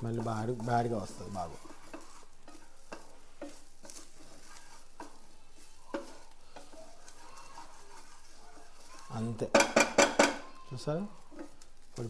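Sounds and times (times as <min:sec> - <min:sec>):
light sizzle: 0:00.0 - 0:12.0
spatula scraping a pan: 0:00.0 - 0:12.0.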